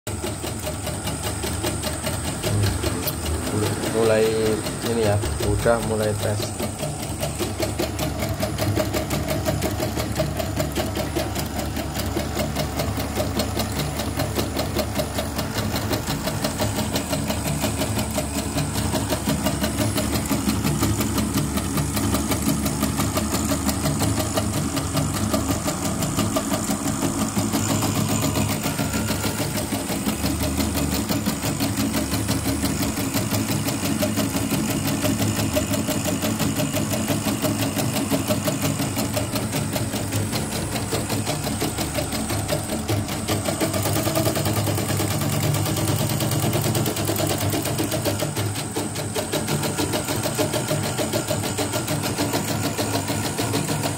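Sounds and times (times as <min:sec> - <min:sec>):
embroidery machine mechanical chatter: 0:00.1 - 0:53.9.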